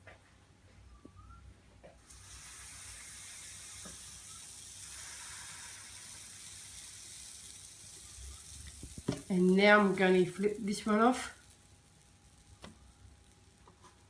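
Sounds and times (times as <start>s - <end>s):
batter sizzling on hot pan: 2.0s - 14.0s.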